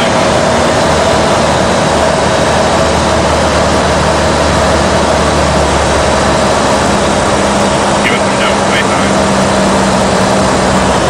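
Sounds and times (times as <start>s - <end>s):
aircraft engine and propeller droning: 0.0s - 11.0s.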